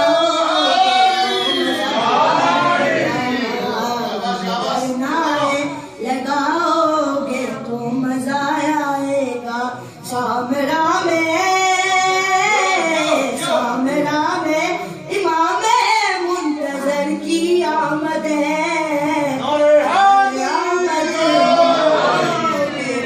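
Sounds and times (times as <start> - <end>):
boy singing into a microphone: 0.0 - 23.0.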